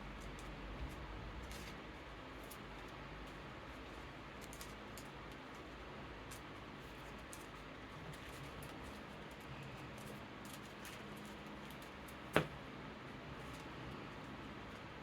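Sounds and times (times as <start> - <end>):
electric fan hiss: 0.0 - 15.0
cards and plastic sleeves rustling: 0.3 - 12.6.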